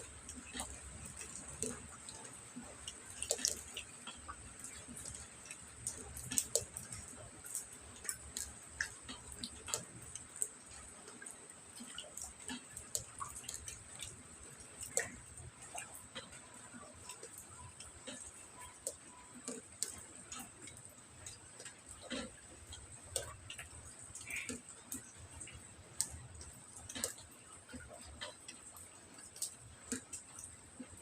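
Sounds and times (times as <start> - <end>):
rain drops tapping: 0.0 - 31.0.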